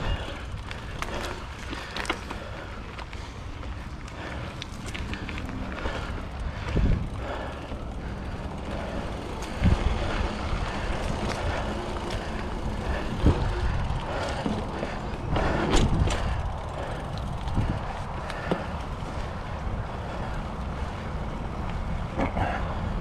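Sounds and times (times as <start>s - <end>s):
bike knocking and rattling: 0.0s - 23.0s
bike tyres rumbling on dirt: 0.0s - 23.0s.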